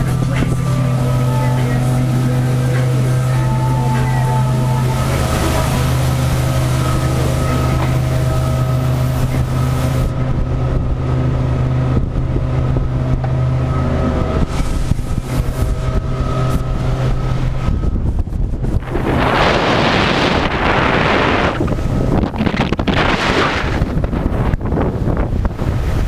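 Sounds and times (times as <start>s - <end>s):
outboard motor running: 0.0s - 26.0s
rush of boat wake: 0.0s - 26.0s
wind buffeting microphone: 0.0s - 26.0s.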